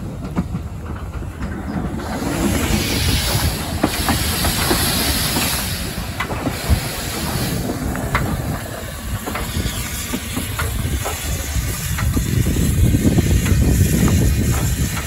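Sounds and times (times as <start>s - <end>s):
locomotive hissing steam: 0.0s - 15.0s.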